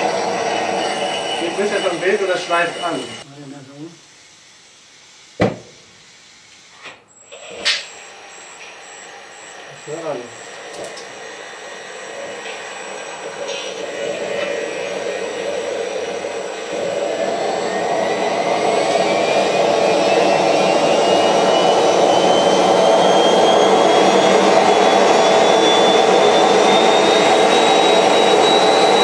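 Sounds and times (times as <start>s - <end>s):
jet engine roaring: 0.0s - 3.3s, 8.6s - 29.0s
rotor whine rising in pitch: 0.0s - 29.0s.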